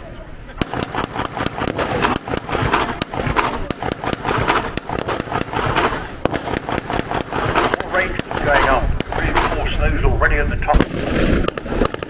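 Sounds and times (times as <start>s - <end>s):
gunshots: 0.6s - 10.1s, 10.7s - 12.0s.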